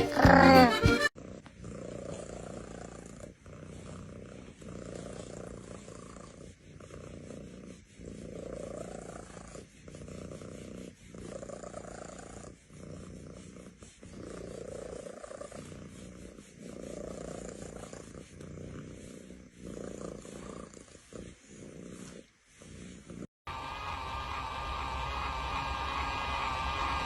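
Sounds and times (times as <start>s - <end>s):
cat purring: 0.0s - 23.4s.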